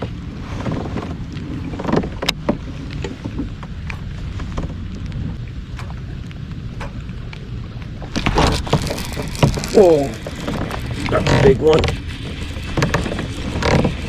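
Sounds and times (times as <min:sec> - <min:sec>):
rain on open water: 0:00.0 - 0:14.0
wind buffeting microphone: 0:00.0 - 0:14.0.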